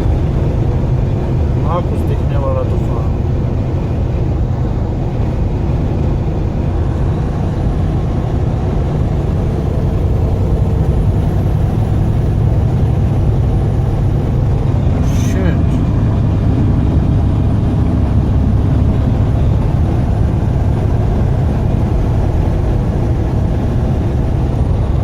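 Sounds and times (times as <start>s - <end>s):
road noise: 0.0s - 25.0s
truck engine drone: 0.0s - 25.0s.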